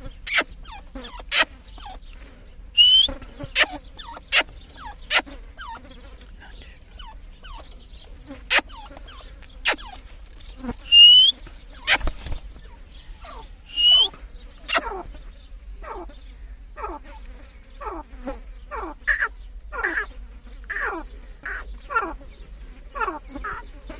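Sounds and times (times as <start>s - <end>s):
francolins calling: 0.0s - 23.9s.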